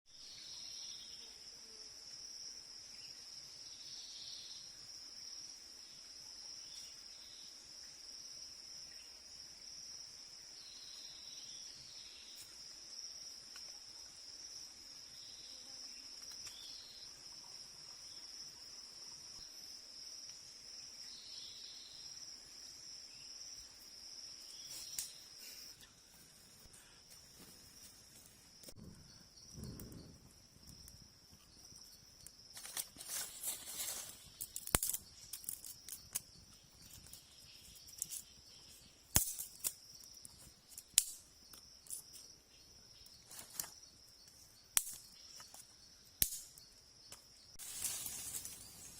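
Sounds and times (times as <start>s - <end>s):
insects droning: 0.1s - 48.9s.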